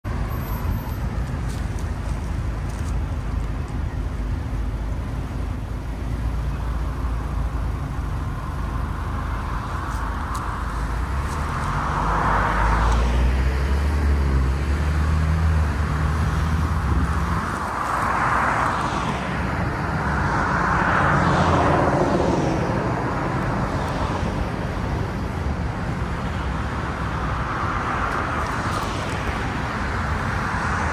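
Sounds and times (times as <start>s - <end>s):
cars passing: 0.0s - 30.9s
low traffic rumble: 0.0s - 30.9s.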